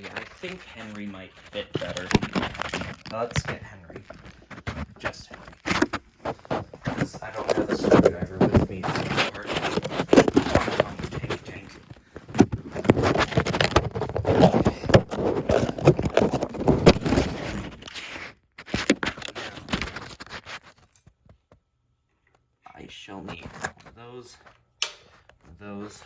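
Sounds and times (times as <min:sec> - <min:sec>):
rummaging small objects: 0:00.0 - 0:21.2.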